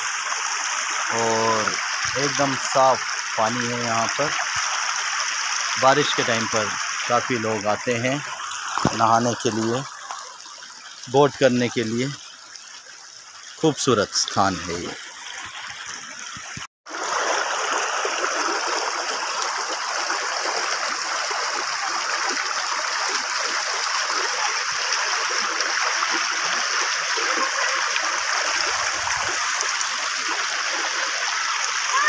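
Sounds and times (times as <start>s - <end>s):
stream rushing over stones: 0.0s - 32.0s.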